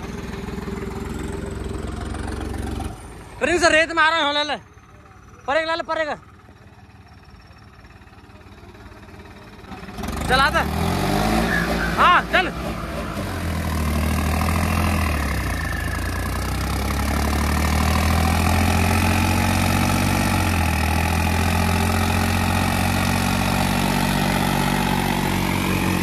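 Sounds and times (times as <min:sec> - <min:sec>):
diesel tractor engines under load: 0:00.0 - 0:26.0.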